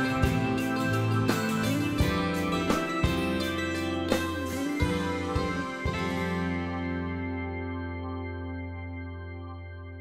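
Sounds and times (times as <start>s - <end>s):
guitar background music: 0.0s - 10.0s
held bass line: 0.0s - 10.0s.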